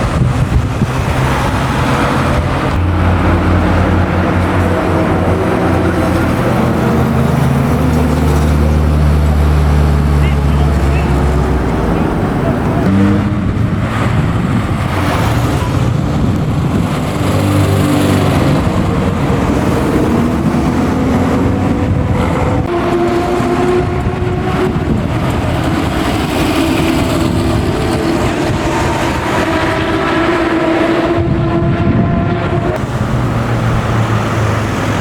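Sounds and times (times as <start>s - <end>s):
car engines running: 0.0s - 35.0s.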